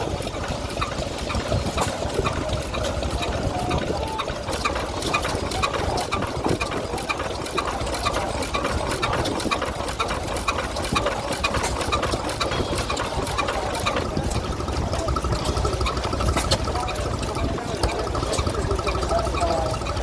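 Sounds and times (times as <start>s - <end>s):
engine clattering: 0.0s - 20.0s.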